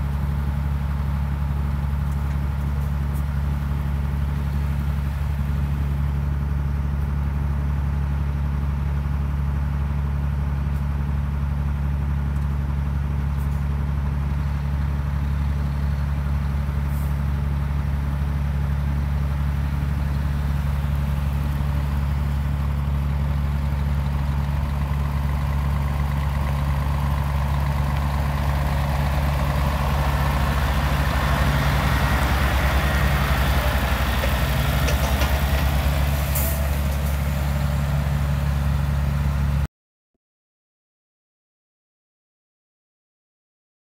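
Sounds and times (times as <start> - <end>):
truck diesel engine idling: 0.0 - 39.7.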